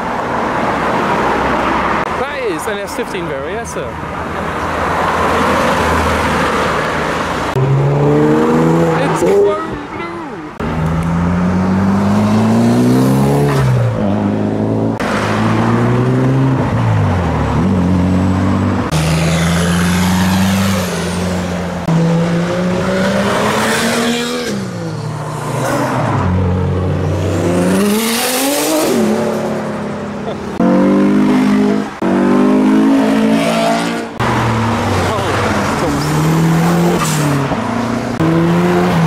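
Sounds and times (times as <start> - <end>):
cars revving past: 3.8 - 9.8, 10.5 - 39.0.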